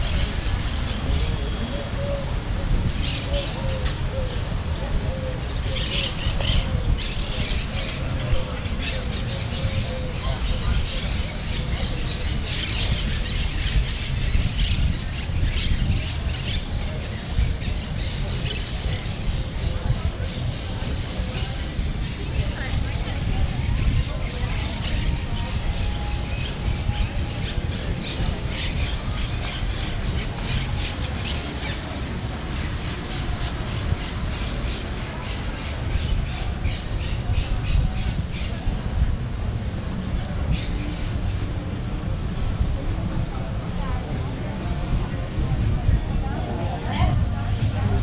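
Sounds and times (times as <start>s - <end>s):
steady low street rumble: 0.0s - 48.0s.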